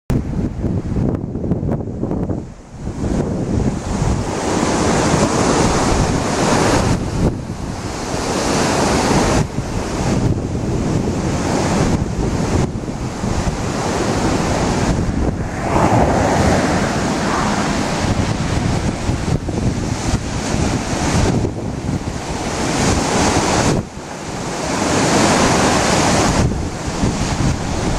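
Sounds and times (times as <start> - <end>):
wind rushing over microphone: 0.1 - 27.9.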